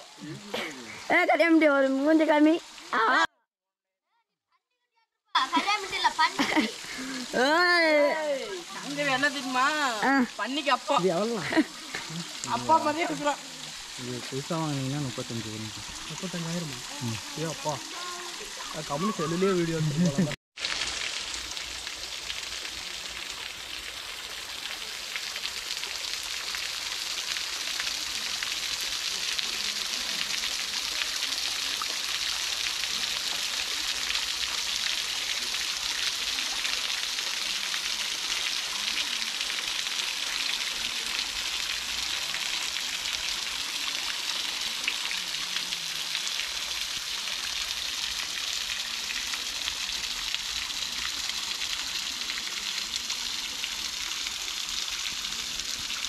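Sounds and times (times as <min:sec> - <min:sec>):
waterfall splashing into rock pool: 0:05.4 - 0:56.0.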